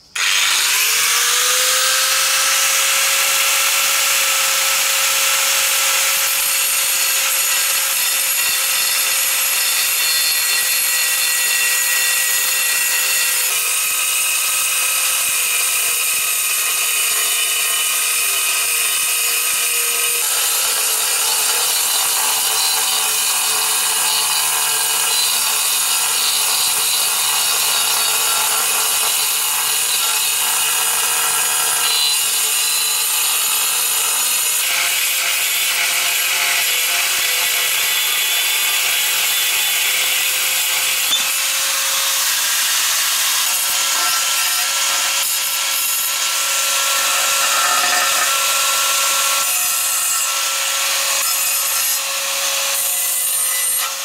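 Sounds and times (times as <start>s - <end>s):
power tool grinding with whine: 0.0s - 54.0s.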